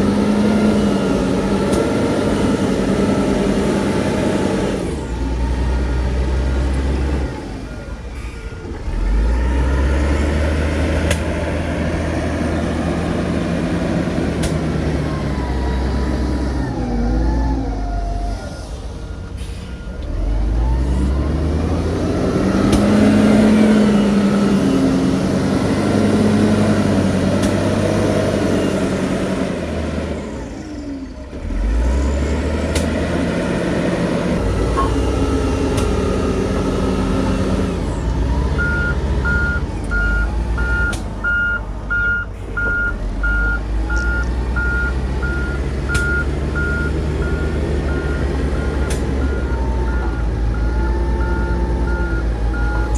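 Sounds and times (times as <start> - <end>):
heavy diesel engine under load: 0.0 - 52.9.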